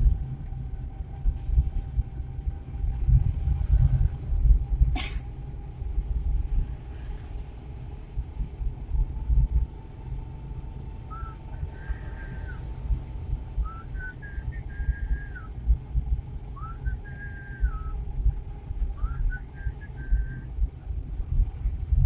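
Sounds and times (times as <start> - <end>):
vehicle engine rumble from cab: 0.0 - 22.0.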